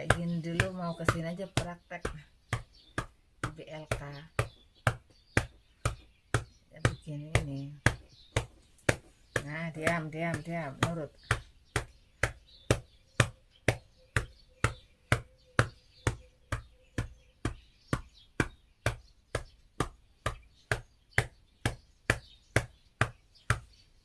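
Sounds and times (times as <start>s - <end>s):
hand clapping on a back: 0.0s - 24.0s.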